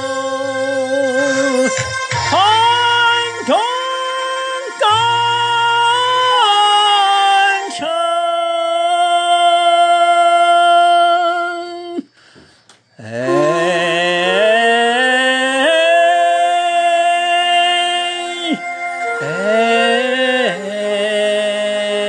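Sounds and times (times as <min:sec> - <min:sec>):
man singing long notes: 0:00.0 - 0:12.1, 0:13.0 - 0:22.0.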